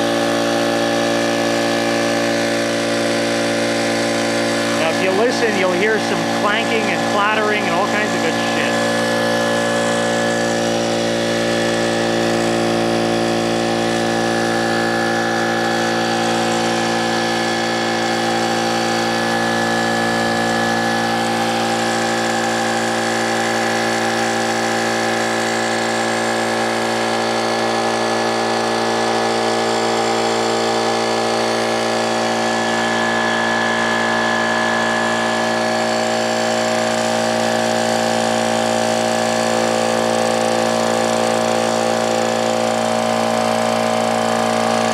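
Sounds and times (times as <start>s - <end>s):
piston air compressor running: 0.0s - 44.9s.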